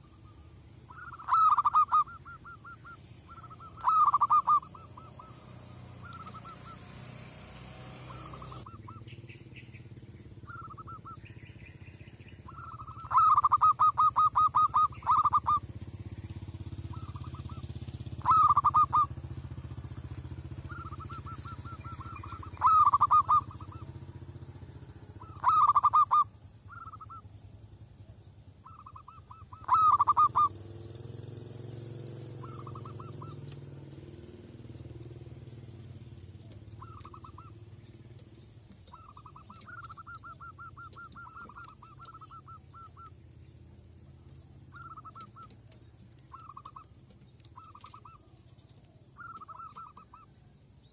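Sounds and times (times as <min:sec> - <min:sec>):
dove cooing: 0:00.0 - 0:27.3, 0:28.0 - 0:30.7, 0:32.0 - 0:43.2, 0:44.4 - 0:50.4.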